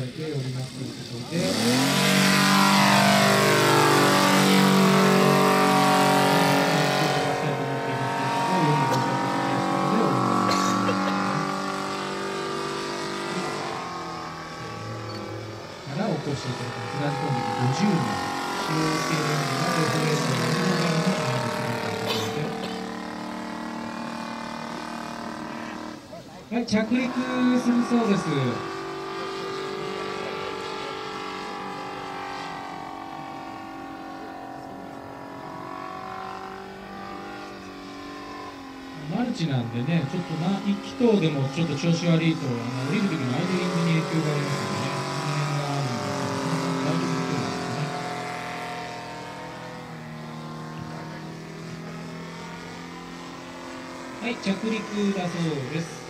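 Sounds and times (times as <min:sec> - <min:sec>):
model plane engine drone: 0:00.0 - 0:56.0.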